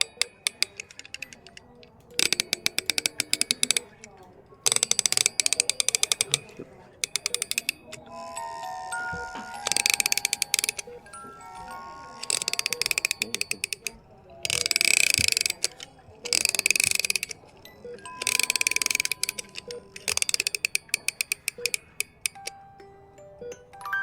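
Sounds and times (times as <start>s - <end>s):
music box ratchet clicking: 0.0s - 22.9s
faint music box notes: 0.0s - 24.0s.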